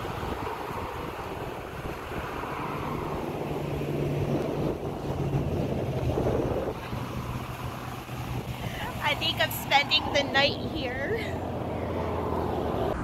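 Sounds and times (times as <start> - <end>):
steady engine drone: 0.0 - 13.0
wind buffeting microphone: 0.0 - 13.0.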